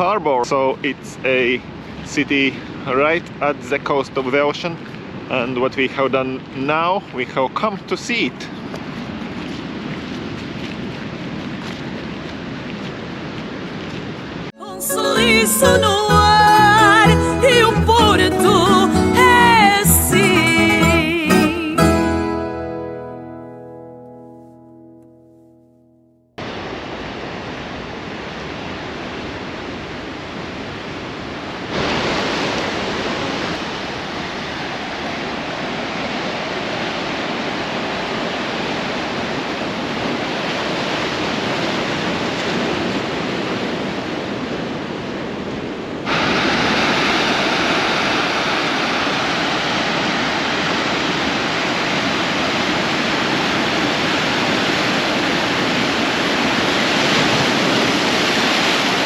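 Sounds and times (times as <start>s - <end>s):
waves breaking: 1.4s - 22.8s, 26.4s - 59.0s.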